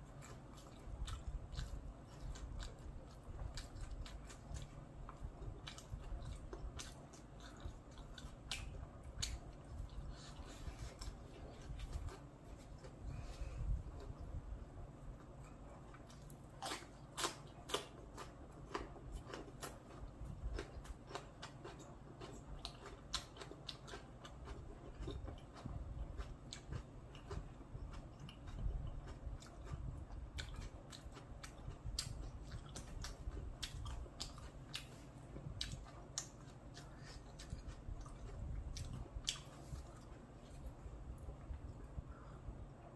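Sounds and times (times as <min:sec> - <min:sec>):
person chewing crispy food: 0:00.0 - 0:14.4, 0:15.1 - 0:42.4.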